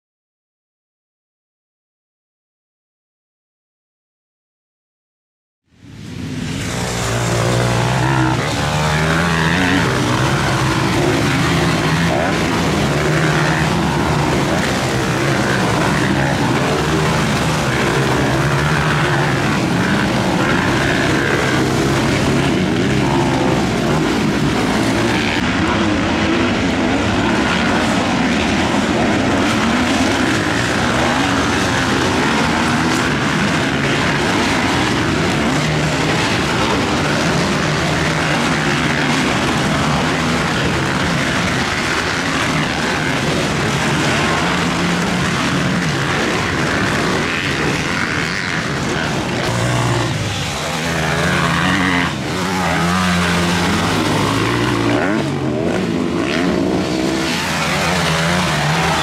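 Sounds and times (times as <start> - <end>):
motocross bike engines racing past: 5.8 - 59.0.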